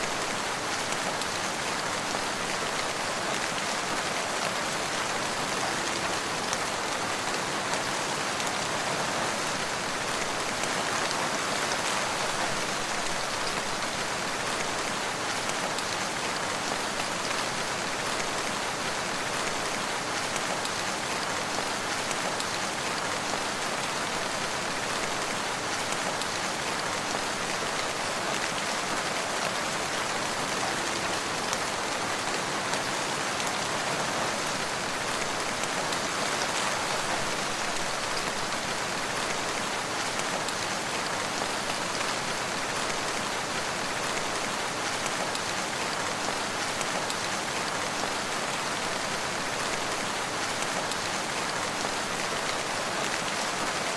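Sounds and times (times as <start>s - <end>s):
rain pattering on surfaces: 0.0s - 53.9s.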